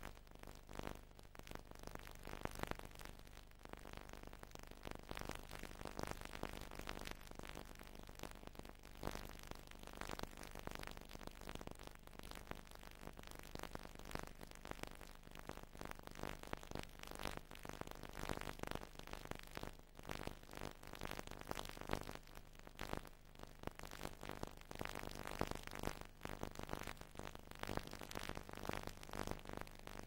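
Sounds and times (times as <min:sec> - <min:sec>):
crackling static hiss: 0:00.0 - 0:30.0.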